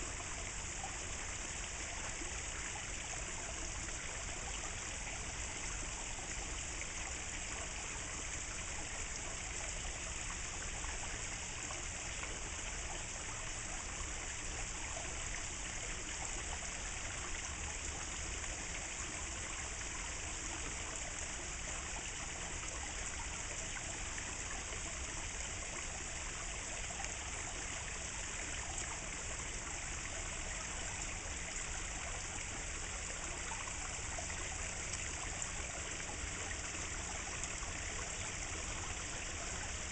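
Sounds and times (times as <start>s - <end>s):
fountain water splashing into pond: 0.0s - 39.9s.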